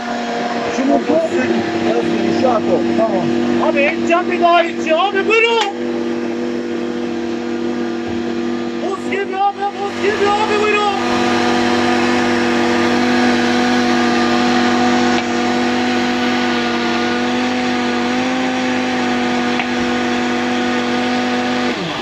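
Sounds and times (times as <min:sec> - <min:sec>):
blender motor running: 0:00.0 - 0:22.0.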